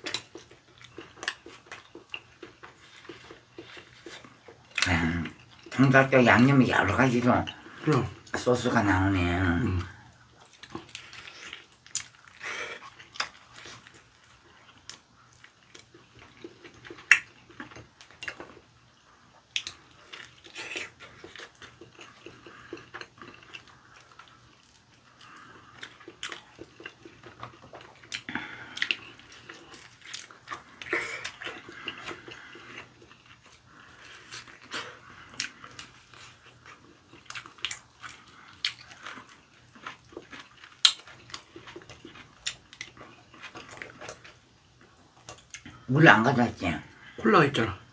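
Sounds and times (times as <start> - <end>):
wet chewing: 0.0 - 8.6, 9.8 - 18.7, 19.3 - 45.8.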